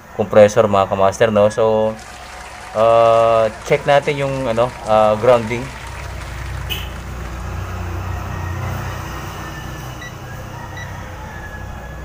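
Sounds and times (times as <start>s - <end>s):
vehicle engine rumble: 1.9s - 12.0s.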